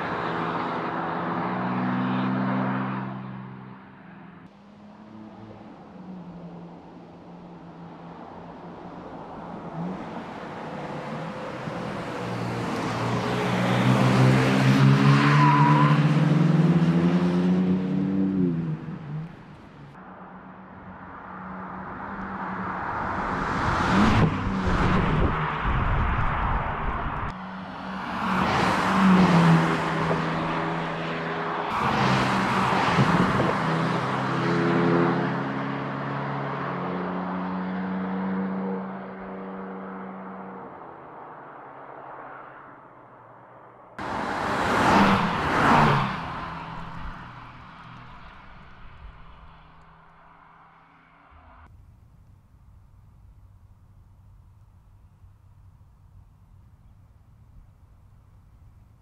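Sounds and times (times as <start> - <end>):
cars driving past at speed: 0.0 - 51.7.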